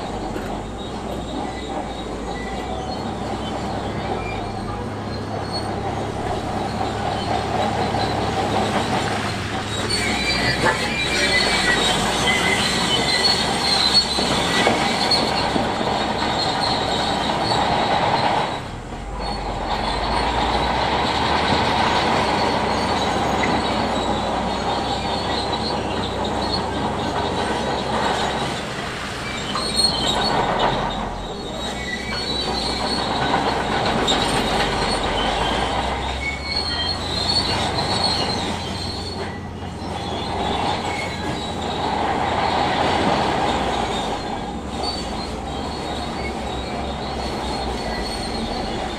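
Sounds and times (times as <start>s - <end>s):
diesel engine running: 0.0s - 48.9s
steel tracks squealing and grinding: 0.0s - 48.9s.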